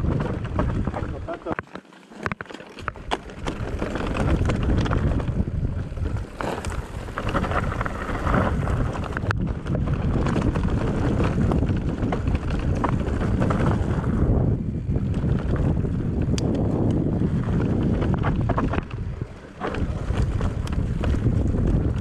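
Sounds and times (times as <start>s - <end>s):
wind buffeting microphone: 0.0s - 1.5s, 2.9s - 22.0s
clicks and knocks over rough ground: 0.0s - 22.0s.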